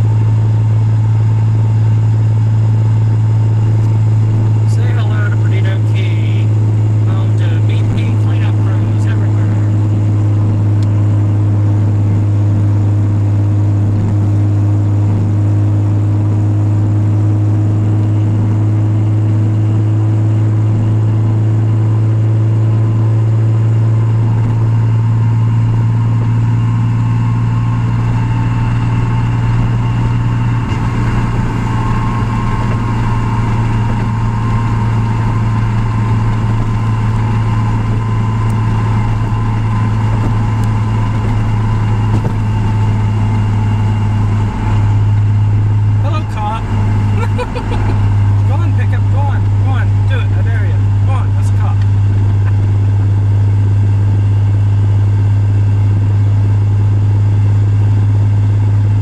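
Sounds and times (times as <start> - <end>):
car engine droning in cabin: 0.0 - 59.0.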